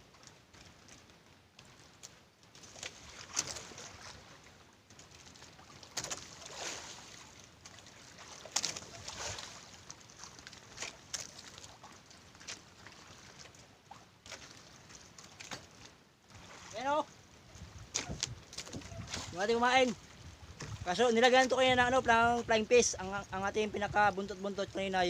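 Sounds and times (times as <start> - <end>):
water splashing against boat: 0.0 - 25.0.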